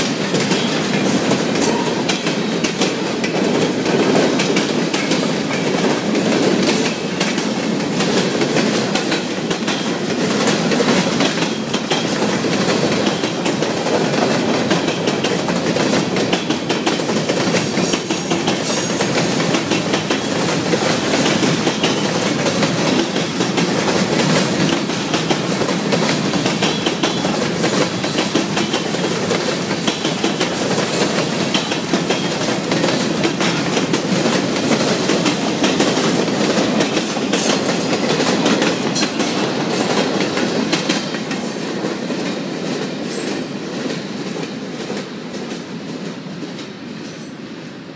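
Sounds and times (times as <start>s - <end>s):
wheels clickety-clack: 0.0s - 46.7s
freight train rumbling past: 0.0s - 47.9s.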